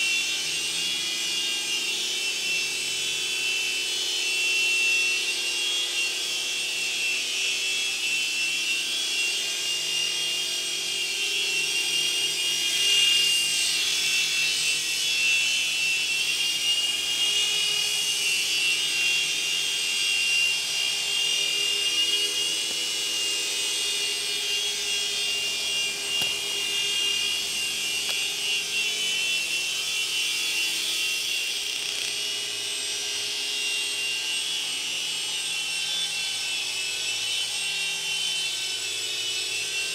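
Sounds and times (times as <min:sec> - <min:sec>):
toy helicopter rotors whining: 0:00.0 - 0:39.9.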